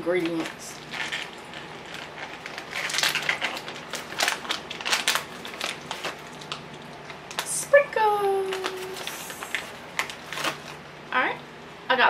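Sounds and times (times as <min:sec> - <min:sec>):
plastic wrapper crinkling: 0:00.0 - 0:10.9.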